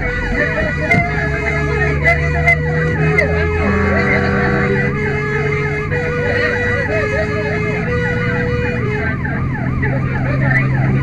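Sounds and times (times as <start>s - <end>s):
fire engine sirens yelping: 0.0s - 11.0s.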